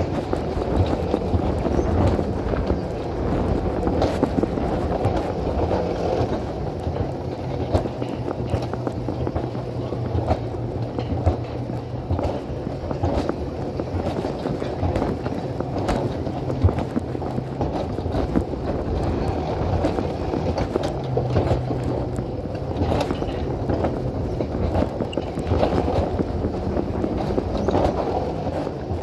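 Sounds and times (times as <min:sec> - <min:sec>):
short rattles and clicks: 0:00.0 - 0:29.0
wheels rumbling on rails: 0:00.0 - 0:29.0.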